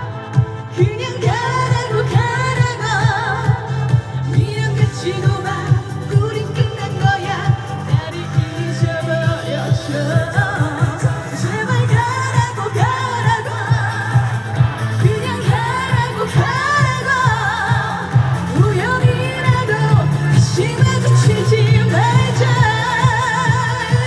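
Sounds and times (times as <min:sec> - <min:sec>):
amplified pop backing music: 0:00.0 - 0:24.0
woman singing: 0:00.0 - 0:24.0.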